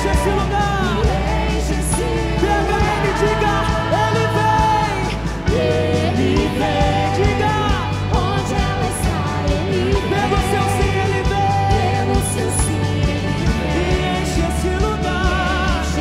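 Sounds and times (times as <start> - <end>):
band playing a song: 0.0 - 16.0.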